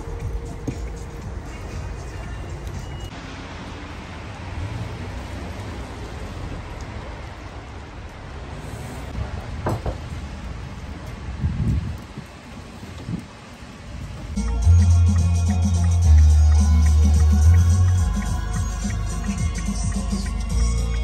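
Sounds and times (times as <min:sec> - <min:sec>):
cars on a wet road: 0:00.0 - 0:21.0.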